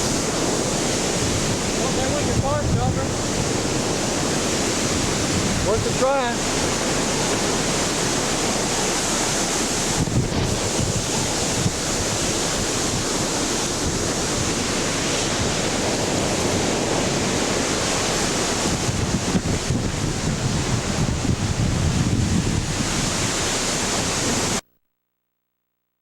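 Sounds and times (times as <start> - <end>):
storm wind buffeting microphone: 0.0 - 24.6.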